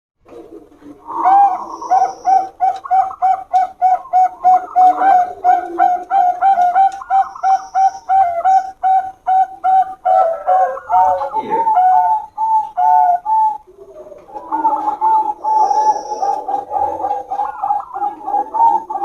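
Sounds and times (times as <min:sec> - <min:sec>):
lower rolling dove coo: 0:00.2 - 0:19.0
short bright dove coos: 0:00.3 - 0:19.0.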